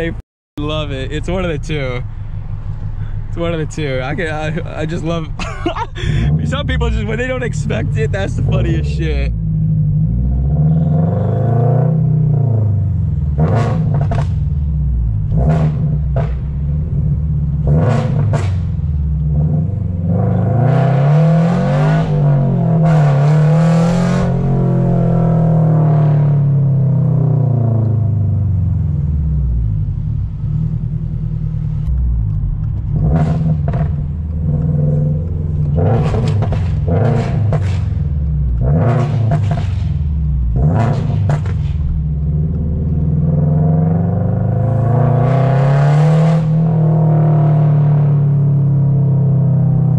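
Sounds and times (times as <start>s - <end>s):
exhaust rasp blips: 0.0s - 47.4s
car engine droning: 0.0s - 49.9s.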